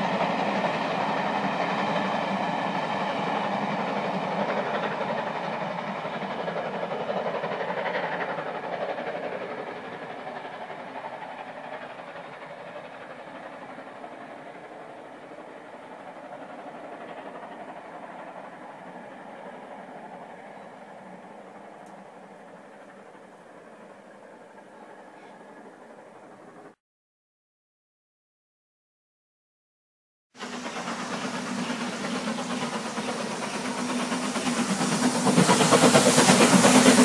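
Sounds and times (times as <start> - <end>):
steam train running: 0.0 - 26.8, 30.4 - 37.0.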